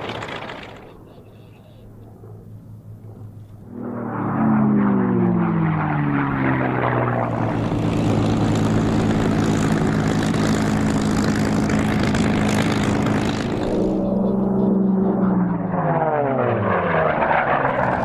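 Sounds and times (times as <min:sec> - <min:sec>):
propeller plane engine passing: 0:00.0 - 0:18.0.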